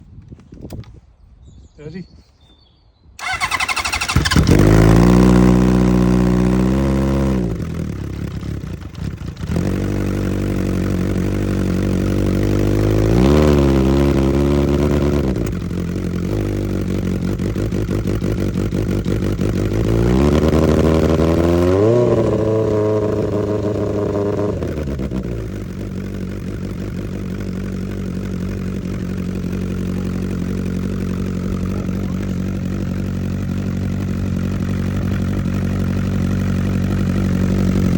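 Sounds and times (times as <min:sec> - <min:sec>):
motorcycle engine revving and idling: 0:03.2 - 0:37.9.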